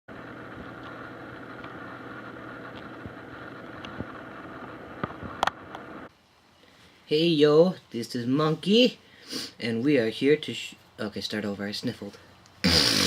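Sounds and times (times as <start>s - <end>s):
background hum and hiss: 0.1s - 13.0s.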